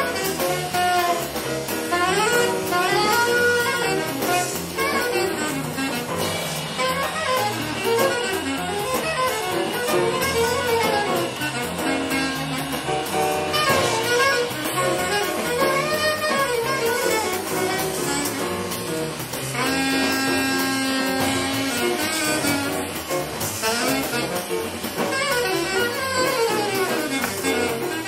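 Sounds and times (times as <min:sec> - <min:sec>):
alto saxophone: 0:00.0 - 0:28.0
piano: 0:00.0 - 0:28.0
trumpet: 0:00.0 - 0:28.0.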